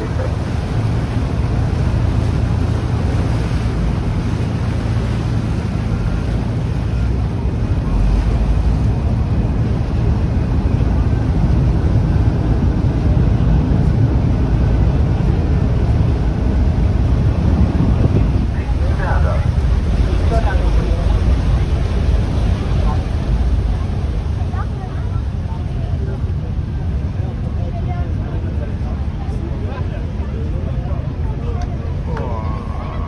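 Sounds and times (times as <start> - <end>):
deep low rumble: 0.0 - 33.0
water washing: 0.0 - 33.0
wind noise on microphone: 0.0 - 33.0.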